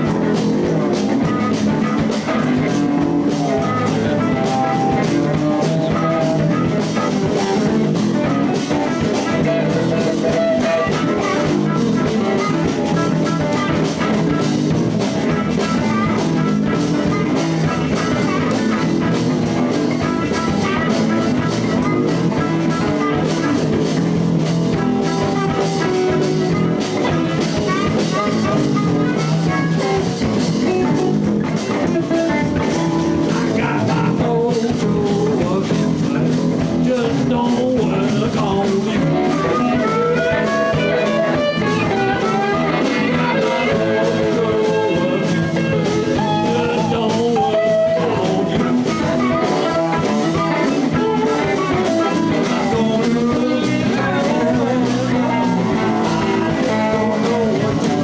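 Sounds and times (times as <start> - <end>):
drum kit: 0.0 - 58.0
electric guitar playing: 0.0 - 58.0.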